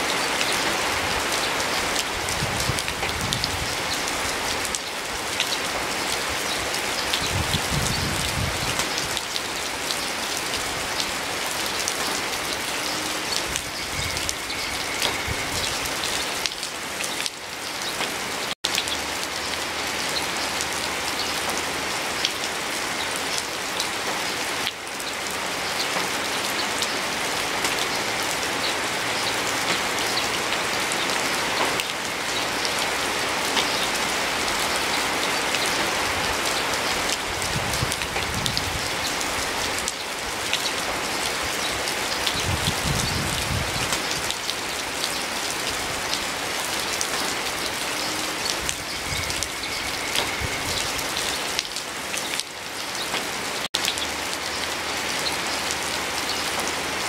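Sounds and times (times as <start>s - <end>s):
raindrops hitting close by: 0.0s - 57.0s
steady rain: 0.0s - 57.0s.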